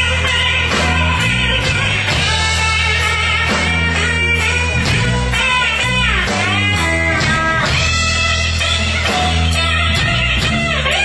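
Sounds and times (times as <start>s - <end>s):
bass guitar line: 0.0s - 11.0s
electric guitar bending notes: 0.0s - 11.0s.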